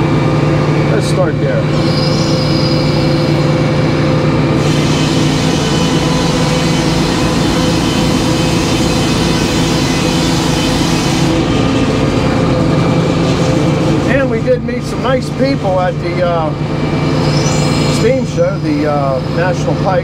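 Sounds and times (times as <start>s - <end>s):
sawmill machinery drone: 0.0s - 20.0s.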